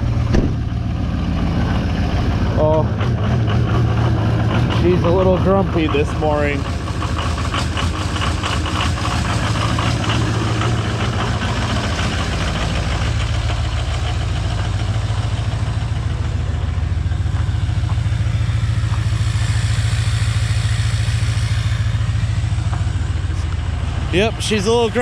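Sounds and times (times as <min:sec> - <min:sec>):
diesel engine idling rough: 0:00.0 - 0:25.0.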